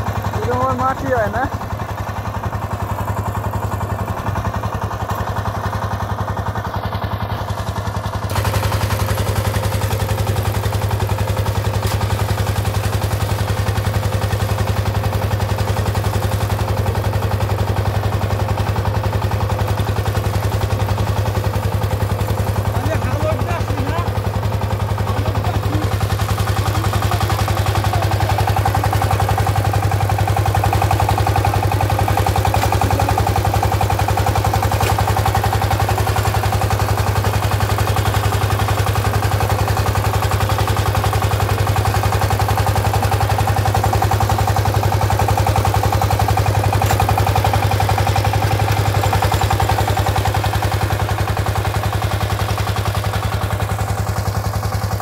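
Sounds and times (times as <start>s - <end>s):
diesel tiller engine chugging: 0.0s - 55.0s.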